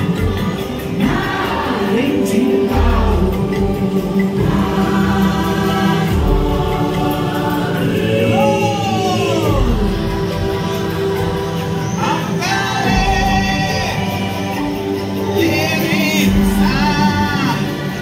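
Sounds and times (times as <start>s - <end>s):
wordless choral singing: 0.0s - 18.0s.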